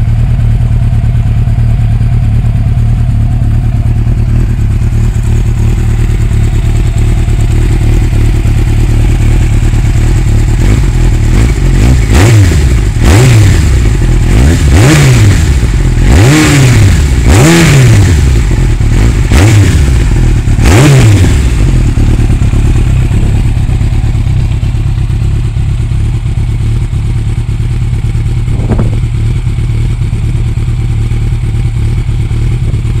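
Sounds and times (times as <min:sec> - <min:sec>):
motorcycle engine revving and idling: 0:00.0 - 0:33.0.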